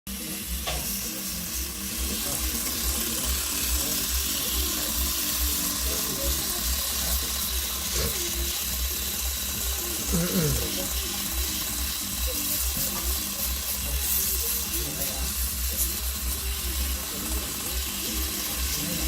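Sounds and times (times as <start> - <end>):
faint voices: 0.1 - 19.0.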